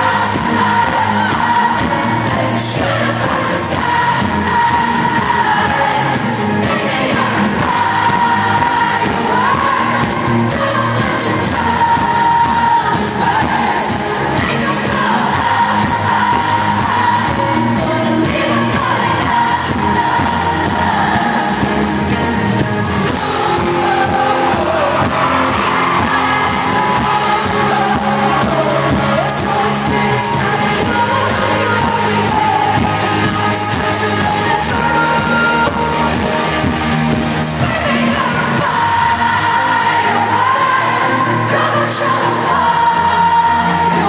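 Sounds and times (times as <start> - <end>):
loud band backing: 0.0 - 44.0
woman singing amplified: 0.0 - 44.0.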